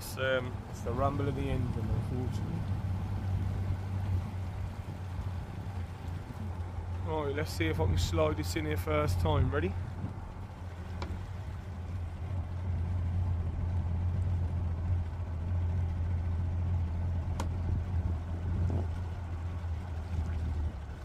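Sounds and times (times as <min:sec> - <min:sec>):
boat engine idling: 0:00.0 - 0:21.0.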